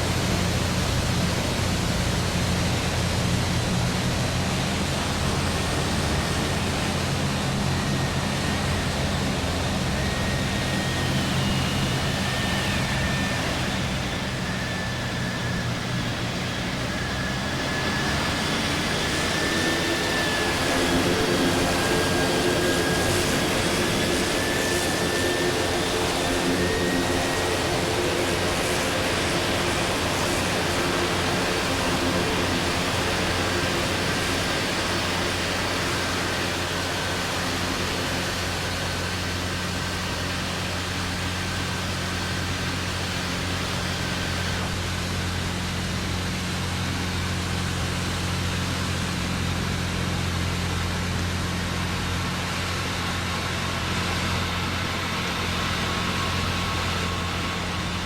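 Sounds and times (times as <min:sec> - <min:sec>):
faint high engine whine: 0:00.0 - 0:58.0
jet engines rushing: 0:00.0 - 0:58.0.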